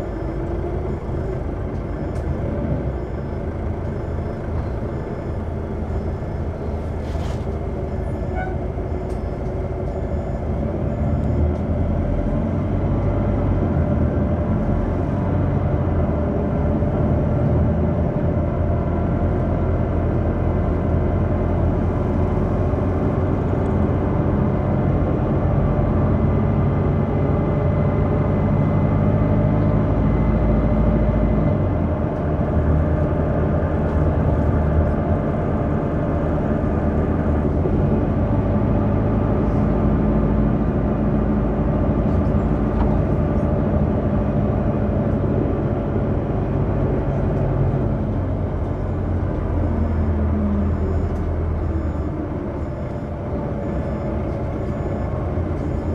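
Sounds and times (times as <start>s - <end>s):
bus engine hum: 0.0s - 55.9s
road noise: 0.0s - 55.9s.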